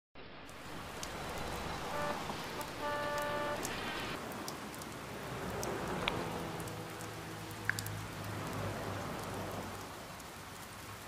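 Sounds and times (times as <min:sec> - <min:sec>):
rain patter: 0:00.2 - 0:11.0.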